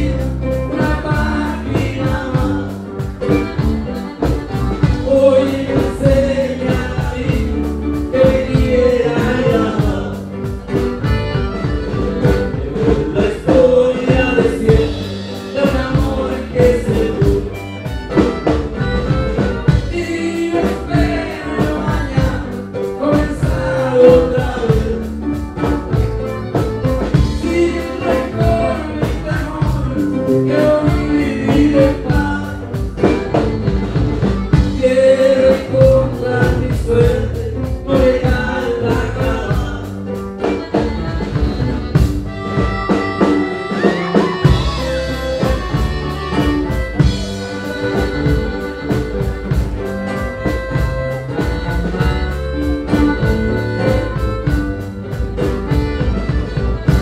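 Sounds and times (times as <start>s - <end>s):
man singing lead vocal: 0.0s - 49.6s
accordion: 0.0s - 57.0s
drum kit beat: 0.0s - 57.0s
electric bass: 0.0s - 57.0s
twelve-string guitar: 0.0s - 57.0s.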